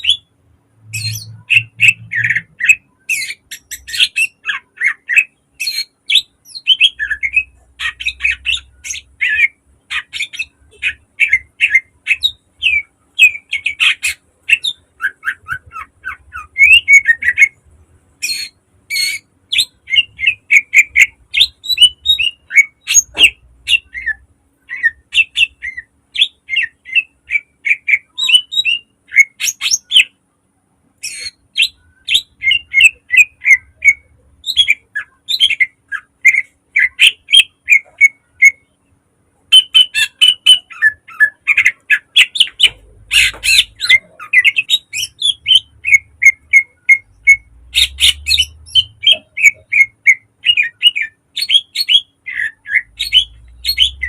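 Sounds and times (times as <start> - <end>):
bird singing sharp chirps and trills: 0.0 - 17.6, 18.2 - 30.2, 31.0 - 38.7, 39.5 - 54.0.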